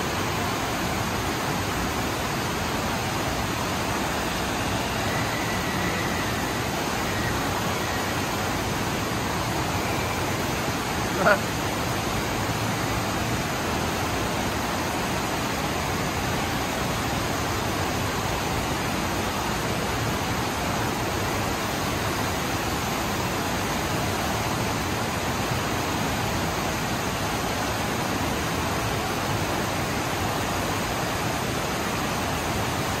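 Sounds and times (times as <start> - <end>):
water rushing steadily: 0.0 - 33.0.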